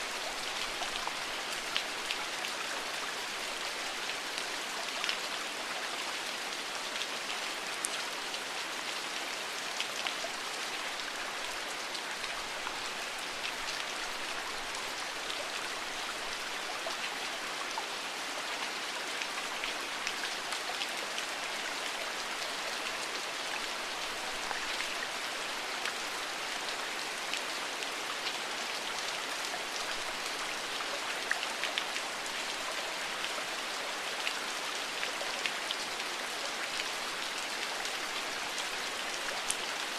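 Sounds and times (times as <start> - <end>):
steady rainfall pattering: 0.0 - 39.9.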